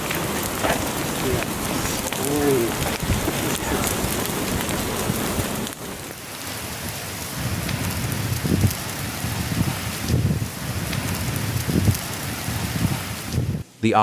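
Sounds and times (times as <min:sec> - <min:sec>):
heavy rain pouring: 0:00.0 - 0:13.6
wind buffeting microphone: 0:00.0 - 0:13.7.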